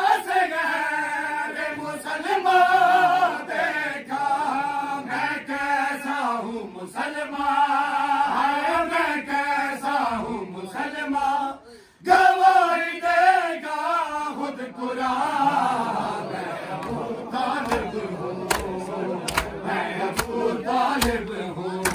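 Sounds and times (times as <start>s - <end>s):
men chanting a lament: 0.0s - 21.9s.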